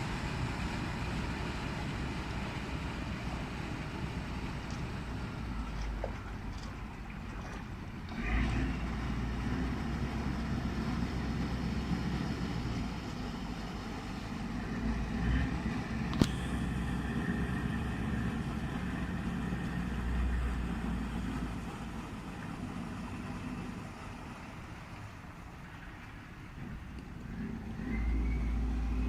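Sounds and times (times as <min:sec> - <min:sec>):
boat diesel engine rumbling: 0:00.0 - 0:29.0.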